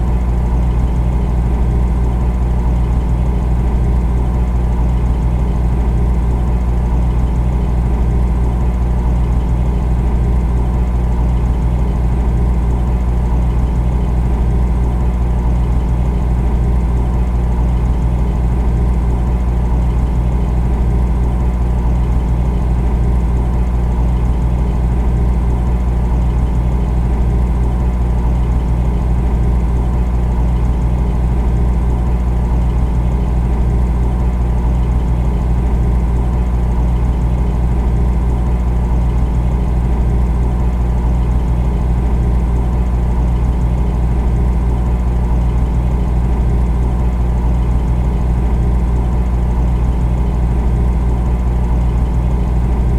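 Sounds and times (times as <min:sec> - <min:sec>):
refrigerator humming: 0:00.0 - 0:52.9.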